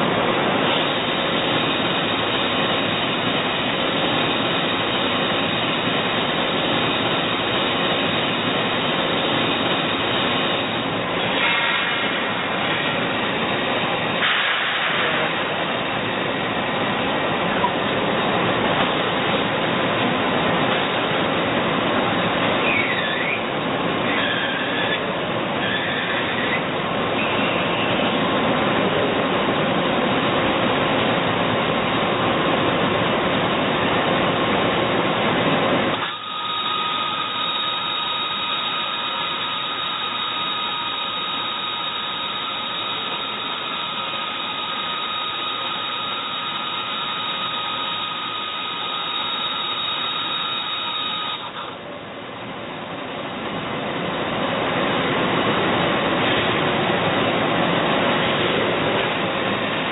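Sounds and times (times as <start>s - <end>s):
lathe high whine: 0.0s - 52.4s
lathe mechanical noise: 0.0s - 59.9s.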